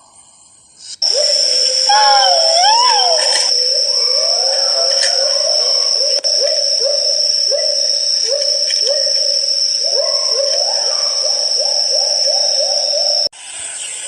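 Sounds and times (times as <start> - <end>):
steady high-pitched whine: 0.9 - 14.0
bird calling upward-sliding notes: 1.0 - 13.3.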